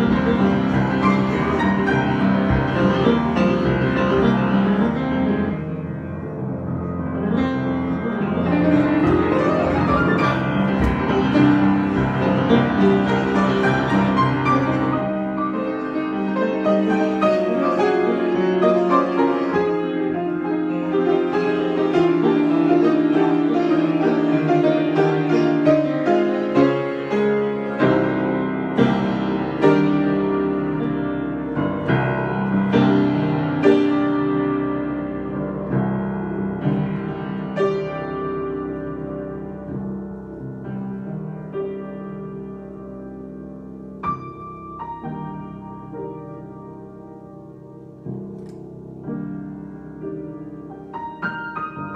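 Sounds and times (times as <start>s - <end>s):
improvised piano piece: 0.0s - 51.9s.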